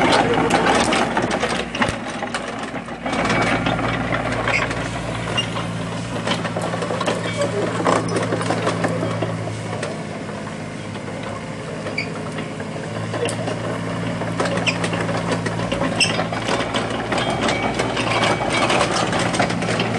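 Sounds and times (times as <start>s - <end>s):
clanking excavator tracks: 0.0s - 19.9s
diesel engine running: 0.0s - 19.9s.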